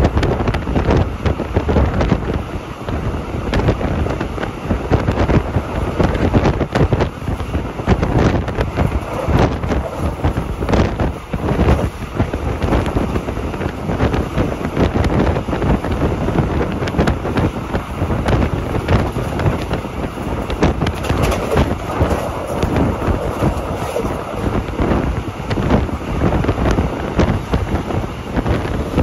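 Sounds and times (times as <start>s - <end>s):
train wheels rumbling: 0.0s - 29.0s
wind buffeting microphone: 0.0s - 29.0s.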